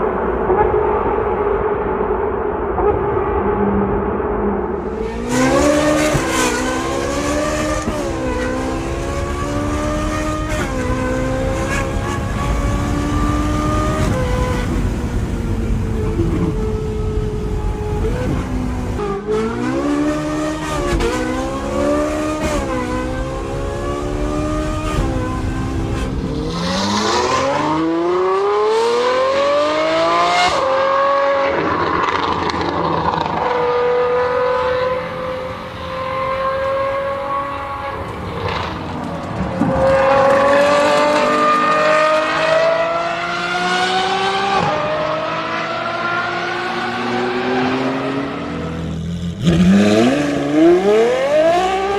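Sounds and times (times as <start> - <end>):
car engine revving and accelerating: 4.7 - 51.9.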